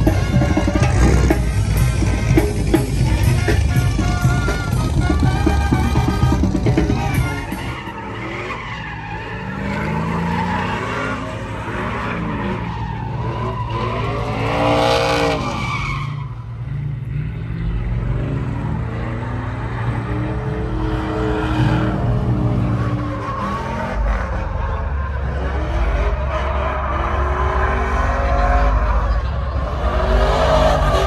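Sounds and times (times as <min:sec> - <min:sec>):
car engines revving: 0:00.0 - 0:31.0
tires squealing on asphalt: 0:00.0 - 0:31.0.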